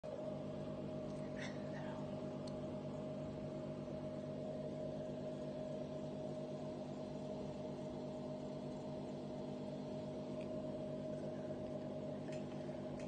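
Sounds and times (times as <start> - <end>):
aquarium pump humming: 0.0 - 13.0.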